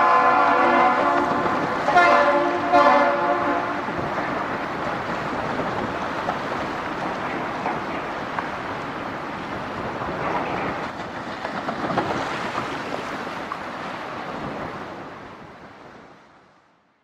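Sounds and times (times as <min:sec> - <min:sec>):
sea waves: 0:00.0 - 0:17.0
wind: 0:00.0 - 0:17.0.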